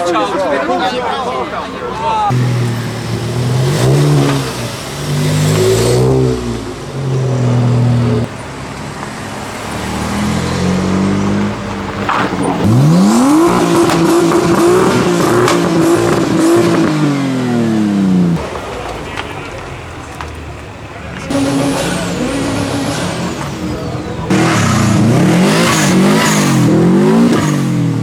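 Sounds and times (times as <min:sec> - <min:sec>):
car engines revving: 0:00.0 - 0:28.0
engine sharp cracks: 0:02.3 - 0:28.0.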